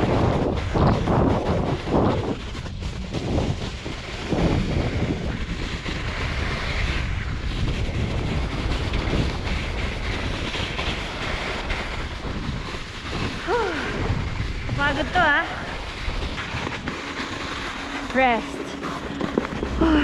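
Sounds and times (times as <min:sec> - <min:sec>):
boards scraping on snow: 0:00.0 - 0:20.0
wind rumbling on microphone: 0:00.0 - 0:20.0.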